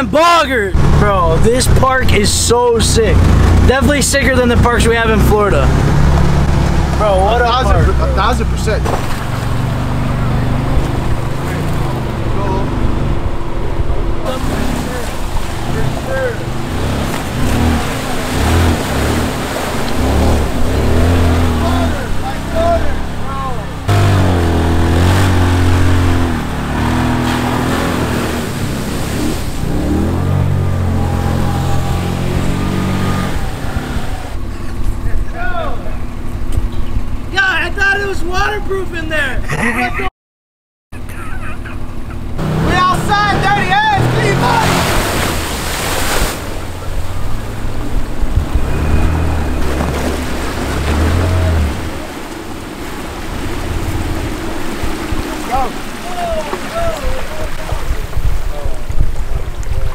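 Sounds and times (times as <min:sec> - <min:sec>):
water splashing and churning: 0:00.0 - 0:35.2, 0:41.0 - 0:59.9
vehicle engine revving: 0:00.0 - 0:37.4, 0:41.0 - 0:56.1.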